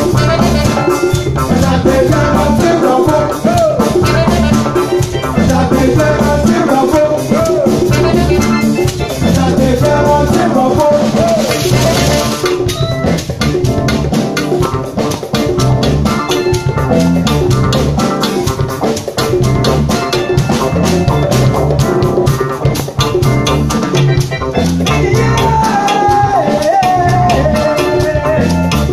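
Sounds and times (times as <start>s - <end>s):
live band playing: 0.0s - 28.9s.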